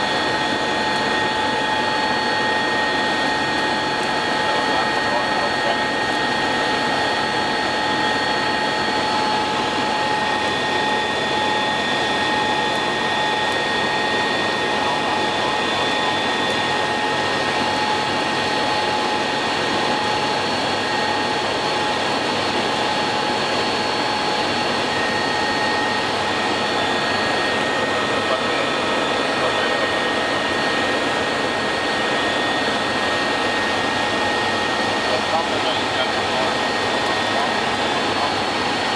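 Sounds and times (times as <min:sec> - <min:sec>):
helicopter cockpit noise: 0:00.0 - 0:38.9.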